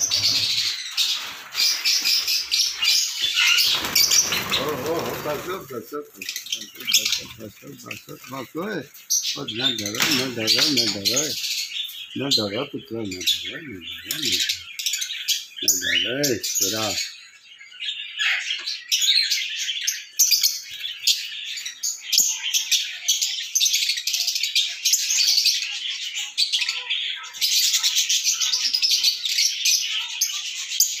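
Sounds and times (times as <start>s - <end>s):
chorus of small birds chirping: 0.0s - 31.0s.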